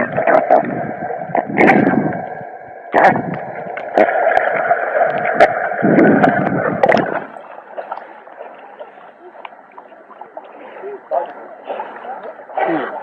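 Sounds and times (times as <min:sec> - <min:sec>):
water splashing and gurgling: 0:00.0 - 0:13.0.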